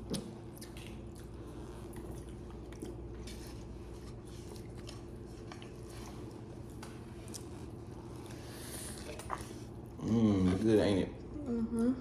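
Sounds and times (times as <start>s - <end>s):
people chewing food: 0.0s - 11.8s.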